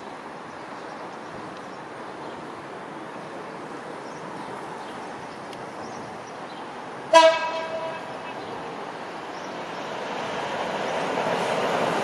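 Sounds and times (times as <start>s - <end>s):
rumble of trains: 0.0s - 12.0s.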